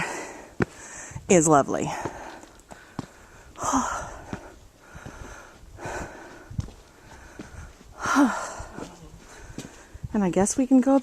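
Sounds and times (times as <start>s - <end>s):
person breathing hard: 0.0s - 1.2s, 1.9s - 10.0s.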